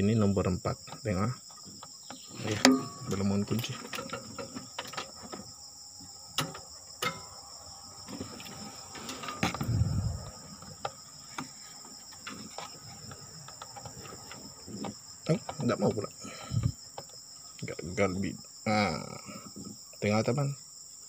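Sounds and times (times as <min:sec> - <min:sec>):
high insect chirring: 0:00.0 - 0:21.0.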